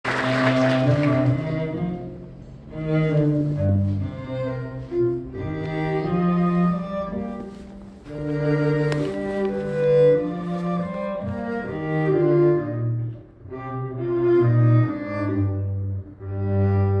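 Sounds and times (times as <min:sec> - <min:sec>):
cello playing slow notes: 0:00.1 - 0:17.0
violin playing slow notes: 0:00.2 - 0:17.0.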